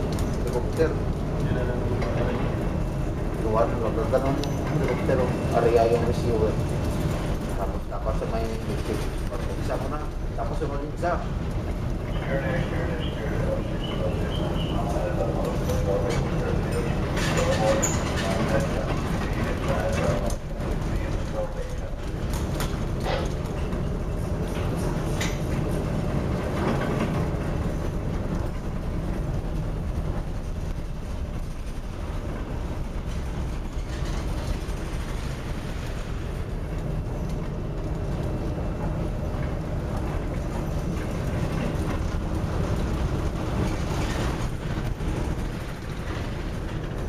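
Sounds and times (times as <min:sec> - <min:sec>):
ship low rumble: 0:00.0 - 0:47.0
wind: 0:00.0 - 0:47.0.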